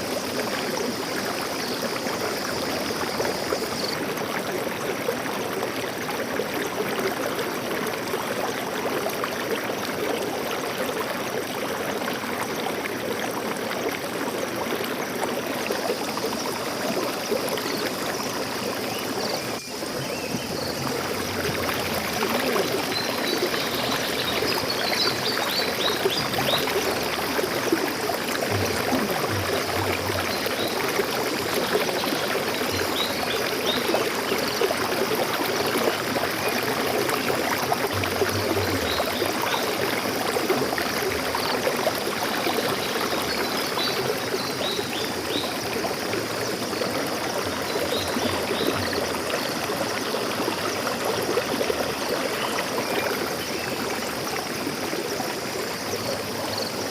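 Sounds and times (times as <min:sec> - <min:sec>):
stream water flowing and splashing: 0:00.0 - 0:56.9.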